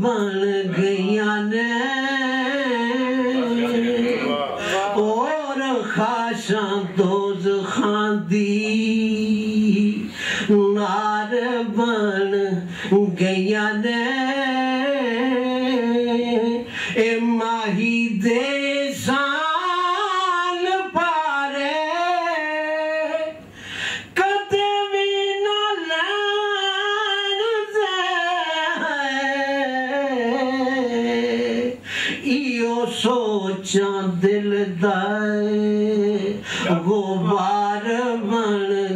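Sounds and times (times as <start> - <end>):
man singing unaccompanied: 0.0 - 23.4, 24.1 - 38.9.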